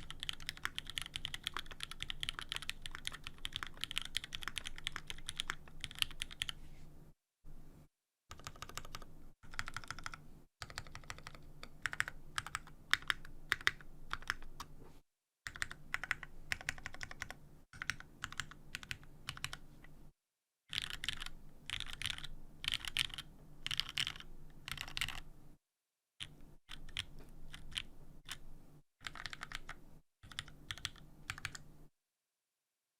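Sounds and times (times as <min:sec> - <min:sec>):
mechanical keyboard typing: 0:00.0 - 0:06.6, 0:08.3 - 0:14.7, 0:15.5 - 0:19.6, 0:20.7 - 0:25.3, 0:26.2 - 0:28.4, 0:29.0 - 0:31.6.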